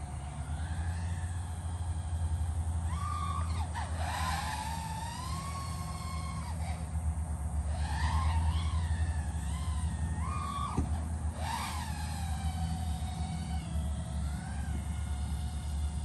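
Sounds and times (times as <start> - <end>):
drone propellers whining: 0.0 - 16.0
steady low hum: 0.0 - 16.0.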